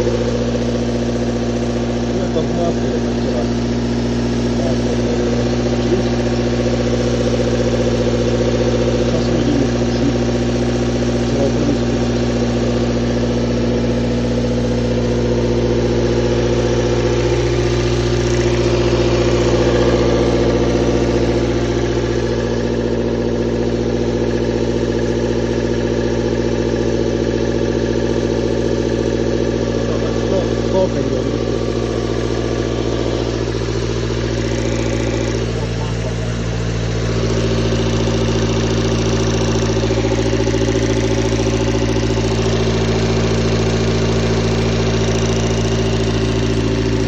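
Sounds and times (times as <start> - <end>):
car engine running: 0.0 - 47.0
engine knocking: 0.0 - 47.0.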